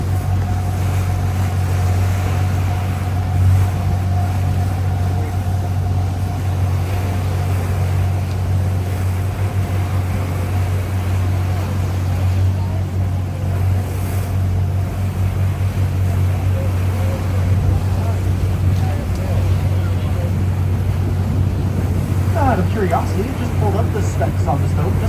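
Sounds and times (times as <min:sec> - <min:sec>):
marine engine drone: 0:00.0 - 0:25.0
water noise: 0:00.0 - 0:25.0
wind: 0:00.0 - 0:25.0.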